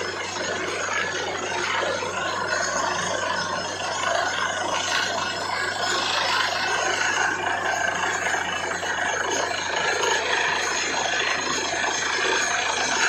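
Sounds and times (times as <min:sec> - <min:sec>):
drilling rig and compressor running: 0:00.0 - 0:13.0.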